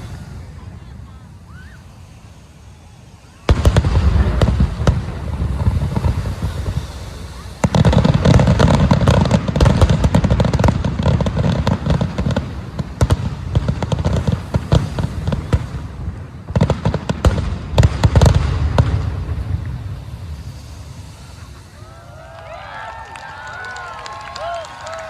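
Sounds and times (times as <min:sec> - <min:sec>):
fireworks booming and crackling: 0:00.0 - 0:25.0.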